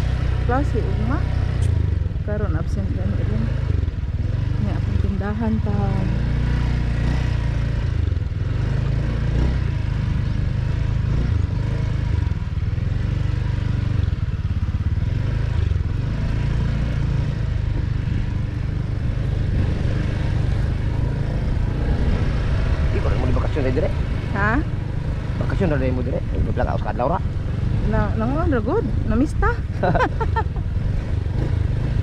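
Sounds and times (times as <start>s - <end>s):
motorcycle engine and road rumble: 0.0s - 32.0s.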